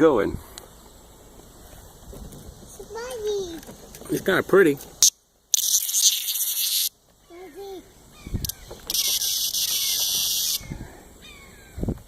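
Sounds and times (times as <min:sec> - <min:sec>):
cicada buzzing: 0:00.7 - 0:11.9.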